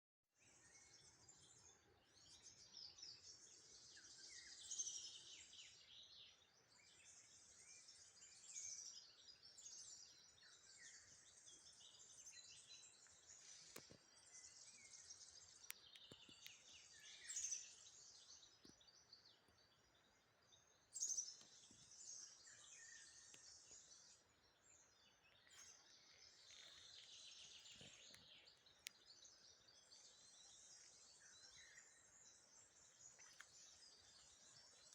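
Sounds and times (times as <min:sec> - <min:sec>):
songbirds chirping: 0:00.3 - 0:34.9.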